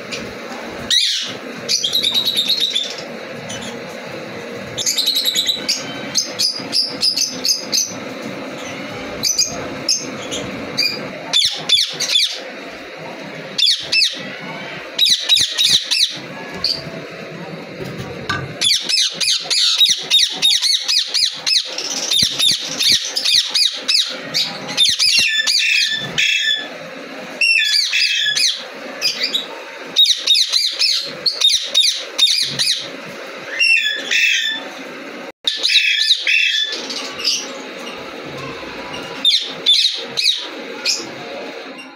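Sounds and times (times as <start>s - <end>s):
parrots chattering and squawking: 0.0s - 17.3s, 18.3s - 34.9s, 35.5s - 41.9s.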